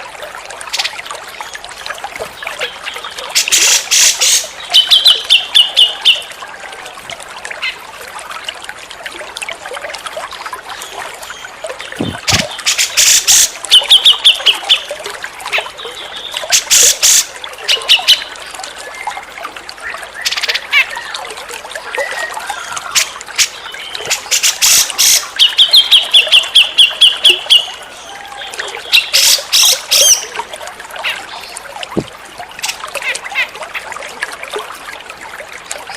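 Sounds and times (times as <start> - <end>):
trickle of running water: 0.0 - 35.9.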